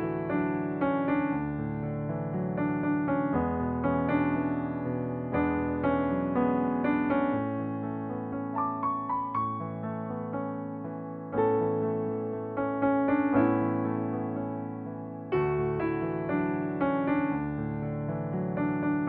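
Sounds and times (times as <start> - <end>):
gentle piano piece: 0.0 - 19.0.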